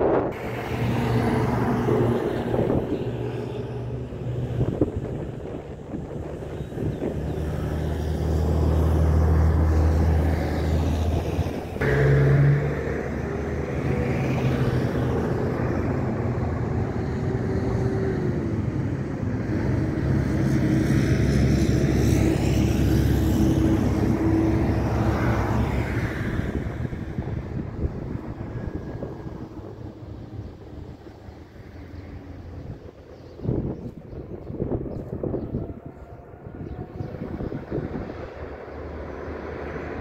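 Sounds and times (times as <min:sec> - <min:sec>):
low engine rumble: 0:00.0 - 0:40.0.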